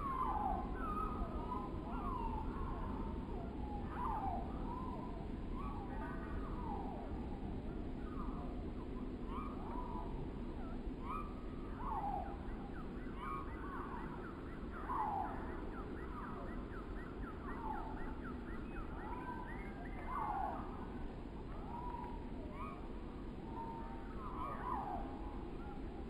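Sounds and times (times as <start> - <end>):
birds calling: 0.0 - 26.0
wind blowing through trees: 0.0 - 26.0.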